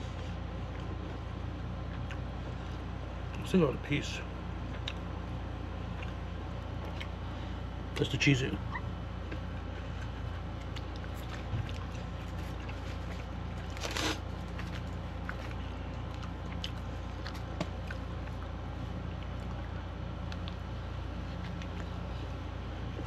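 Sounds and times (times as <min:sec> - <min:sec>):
crunchy chewing: 0:00.0 - 0:03.4, 0:04.3 - 0:08.0, 0:08.6 - 0:23.0.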